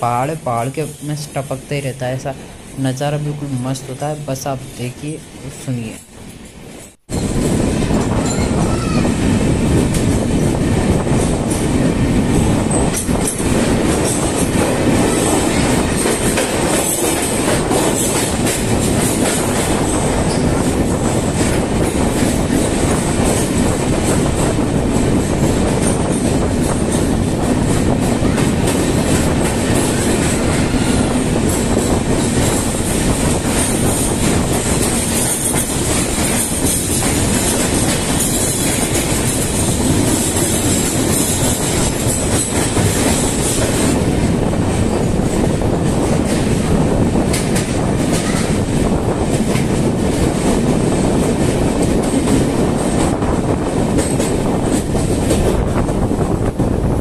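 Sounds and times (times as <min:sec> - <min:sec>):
train wheels rumbling in tunnel: 0:00.0 - 0:57.0
wheels clattering over rails: 0:09.8 - 0:56.6.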